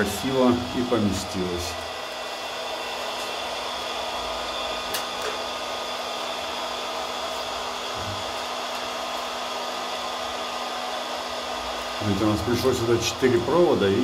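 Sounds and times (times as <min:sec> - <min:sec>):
heat gun whirring: 0:00.0 - 0:14.0.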